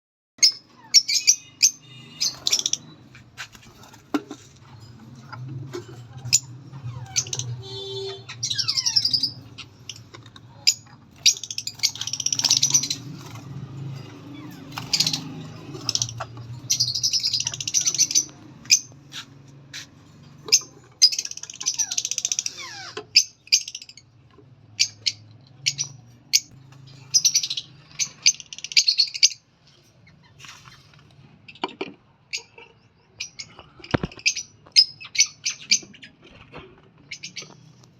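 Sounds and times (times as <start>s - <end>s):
parrots chirping and chattering: 0.4s - 37.9s.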